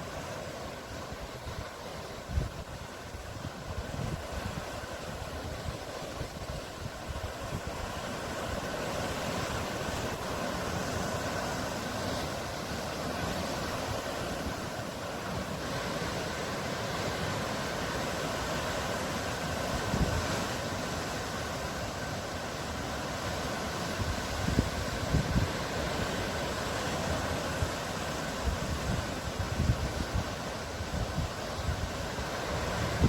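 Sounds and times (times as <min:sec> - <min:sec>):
waves washing in: 0:00.0 - 0:33.0
wind rumbling on microphone: 0:00.0 - 0:33.0.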